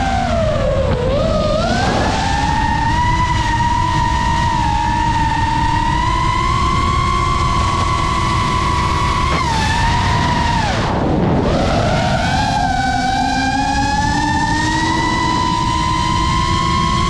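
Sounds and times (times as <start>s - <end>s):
drone motors whining: 0.0s - 17.0s
low rumbling: 0.0s - 17.0s.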